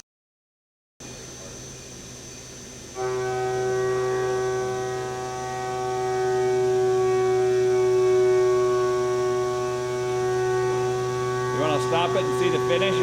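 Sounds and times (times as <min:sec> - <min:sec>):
end mill cutting aluminum: 0:01.0 - 0:13.0
low machine hum: 0:01.0 - 0:13.0.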